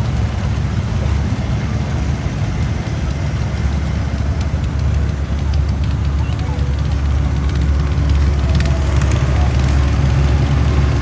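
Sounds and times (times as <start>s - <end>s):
heavy engine droning: 0.0s - 11.0s.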